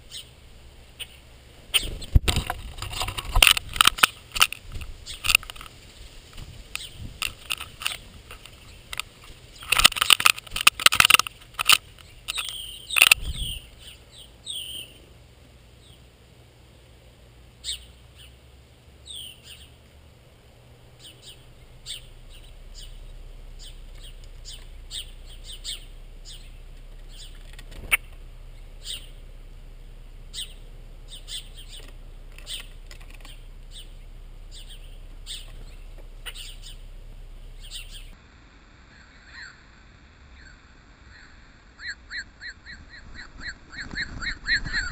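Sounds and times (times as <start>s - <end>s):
small birds chirping: 0.0s - 38.2s, 38.9s - 39.7s, 40.3s - 44.9s.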